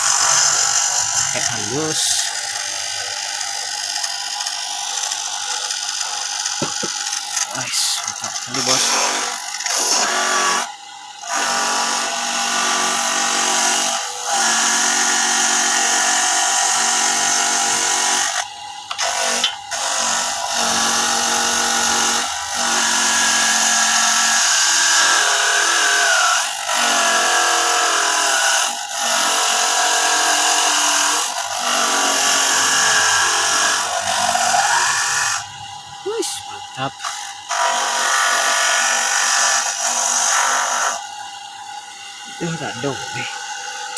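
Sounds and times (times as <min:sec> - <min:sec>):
coconut grating machine motor whine: 0:00.0 - 0:43.9.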